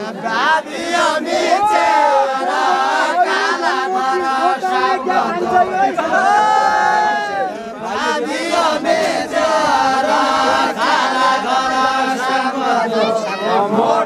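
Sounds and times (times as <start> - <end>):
group singing folk song: 0.0 - 14.0.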